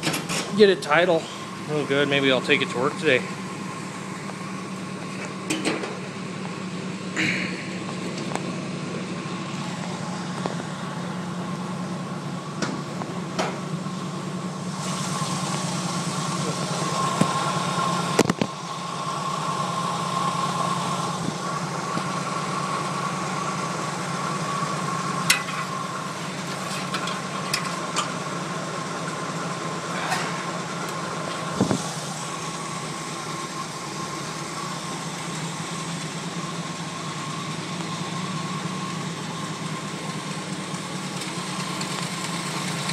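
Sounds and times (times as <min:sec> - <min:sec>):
engine idling: 0:00.0 - 0:42.9.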